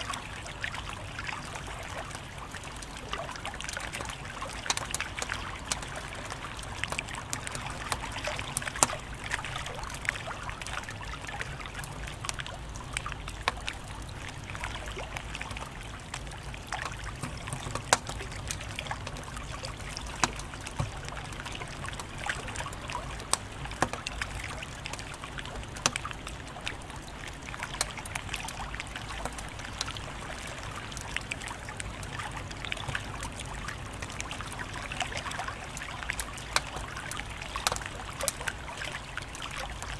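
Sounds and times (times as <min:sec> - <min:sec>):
wood fire crackling and popping: 0:02.7 - 0:10.0, 0:11.6 - 0:29.9, 0:30.9 - 0:39.9.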